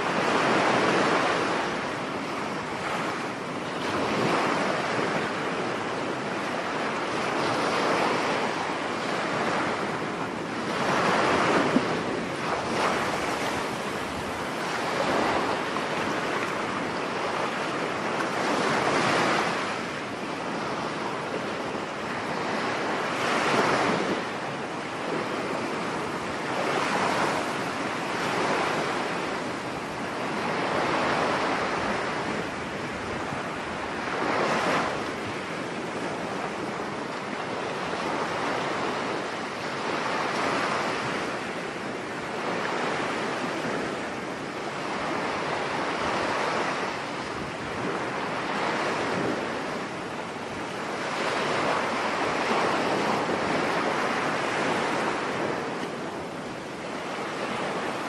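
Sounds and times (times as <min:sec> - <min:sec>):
surf breaking on a beach: 0:00.0 - 0:58.0
wind: 0:00.0 - 0:58.0.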